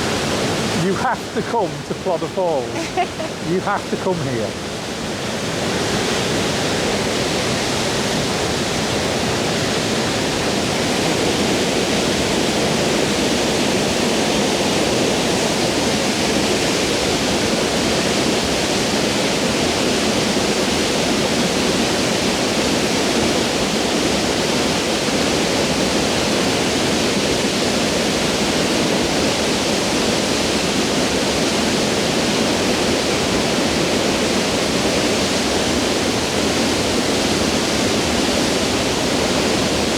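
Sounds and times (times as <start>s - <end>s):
waterfall rushing: 0.0s - 28.9s, 29.8s - 39.9s.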